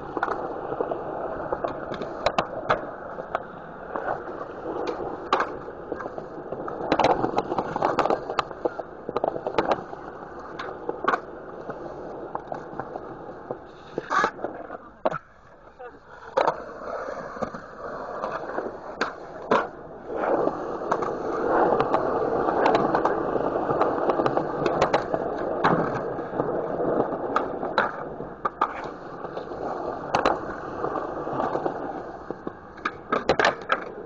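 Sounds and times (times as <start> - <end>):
skateboard clacks popping and landing: 0.0 - 15.4, 16.2 - 34.0
skateboard rolling on concrete: 0.0 - 34.0
skateboard trucks grinding on ledges: 0.0 - 34.0.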